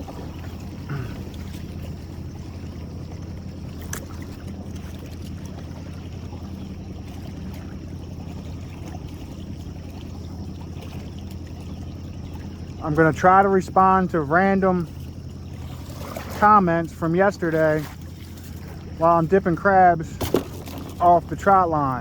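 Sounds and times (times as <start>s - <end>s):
boat motor idling: 0.0s - 22.0s.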